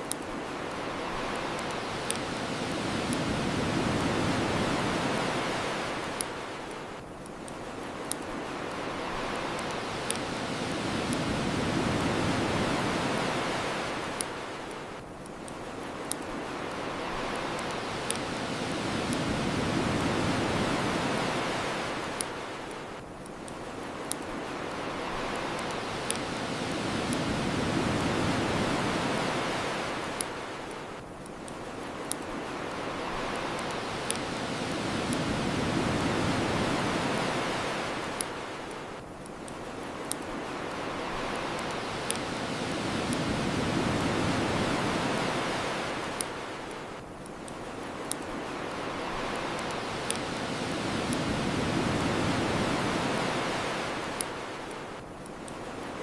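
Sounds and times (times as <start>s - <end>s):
bonfire crackling pops: 0.0s - 56.0s
ocean waves washing ashore: 0.0s - 56.0s.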